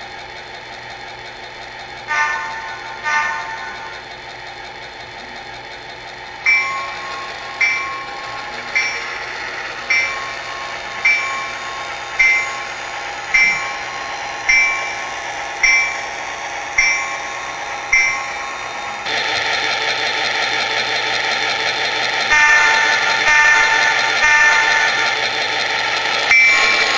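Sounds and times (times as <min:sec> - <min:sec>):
mechanical running noise: 0:00.0 - 0:26.9
model train bell ringing: 0:02.0 - 0:04.1, 0:06.3 - 0:26.9.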